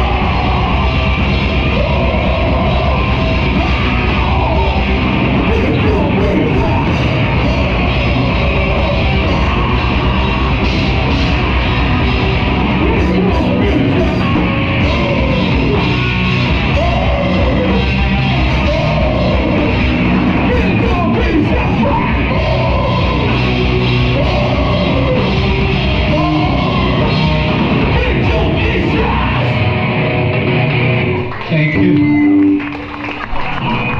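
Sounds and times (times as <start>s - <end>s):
heavy rock band playing: 0.0s - 33.9s.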